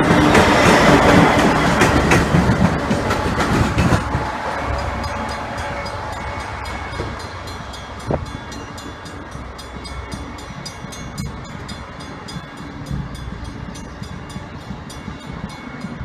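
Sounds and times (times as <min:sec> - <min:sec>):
crossing bell ringing rapidly: 0:00.0 - 0:16.0
diesel locomotive rumbling: 0:00.0 - 0:16.0.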